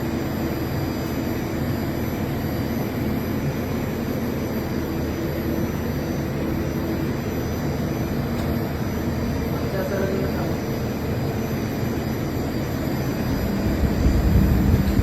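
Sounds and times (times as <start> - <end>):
cooling fans rushing: 0.0 - 15.0.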